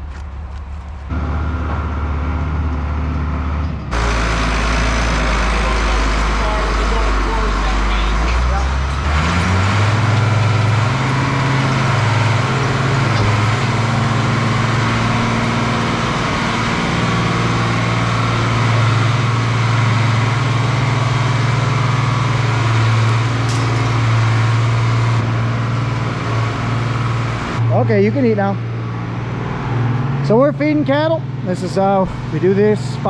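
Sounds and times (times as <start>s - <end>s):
tractor engine humming: 0.0s - 33.0s
feed mixer machinery noise: 1.1s - 33.0s.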